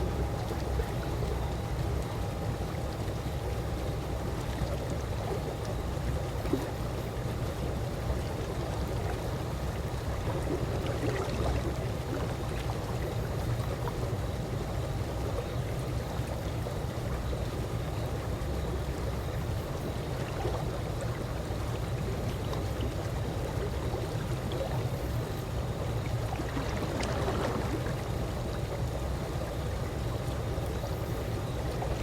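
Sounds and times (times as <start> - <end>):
pool water lapping: 0.0 - 32.0
water drips and trickles: 0.1 - 32.0.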